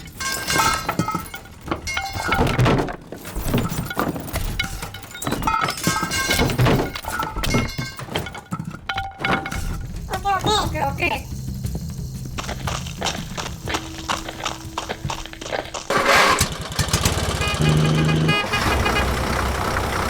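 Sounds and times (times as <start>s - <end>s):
thuds and knocks: 0.0s - 17.2s
background music: 0.0s - 20.0s.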